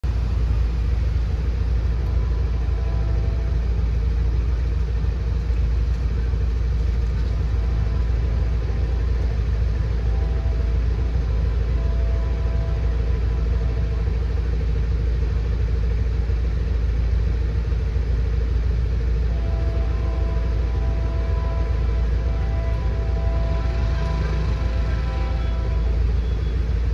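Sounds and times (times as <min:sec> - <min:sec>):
cars passing: 0:00.0 - 0:15.0, 0:19.3 - 0:26.9.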